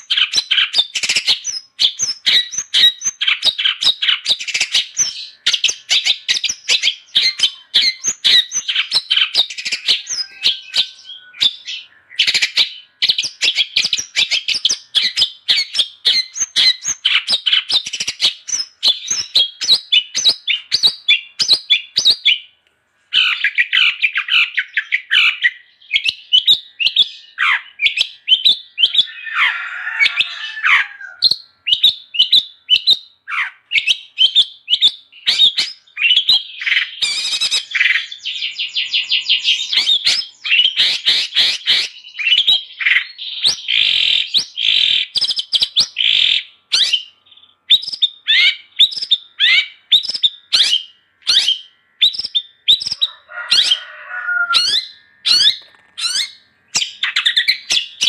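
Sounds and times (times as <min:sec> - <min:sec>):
shrike chattering song: 0:00.0 - 0:22.4, 0:30.2 - 0:58.0.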